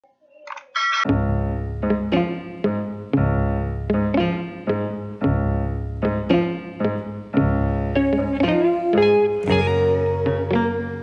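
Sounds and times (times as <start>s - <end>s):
melody over low bass notes: 1.1s - 11.0s.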